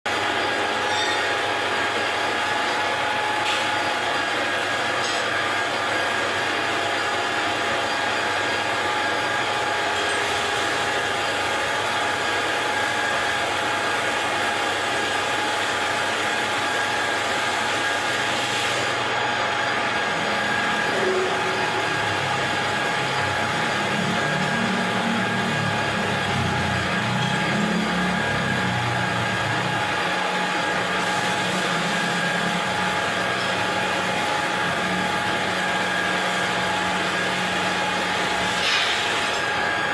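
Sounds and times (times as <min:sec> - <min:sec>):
metal lathe whining: 0:00.1 - 0:39.9.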